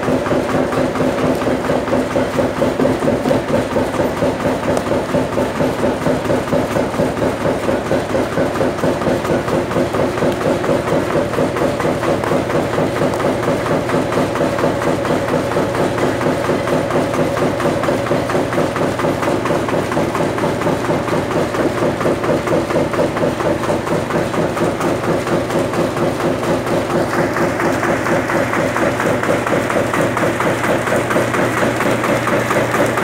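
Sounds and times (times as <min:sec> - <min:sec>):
machine motor hum: 0:00.0 - 0:33.0
rapid rhythmic pounding: 0:00.0 - 0:33.0.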